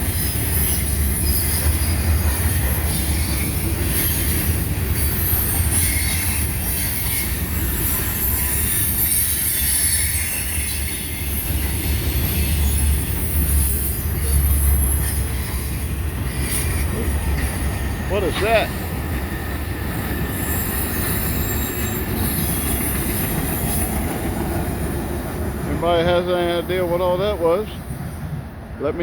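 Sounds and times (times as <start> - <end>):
steel wheels rumbling on rail: 0.0 - 29.0
high-pitched wheel squeal: 0.1 - 17.6, 18.2 - 24.0.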